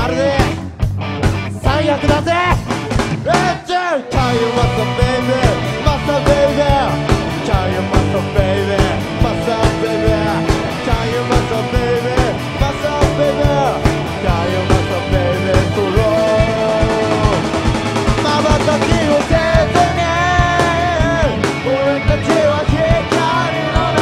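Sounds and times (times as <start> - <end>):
live rock band playing: 0.0 - 24.0
steady drum beat: 0.0 - 24.0.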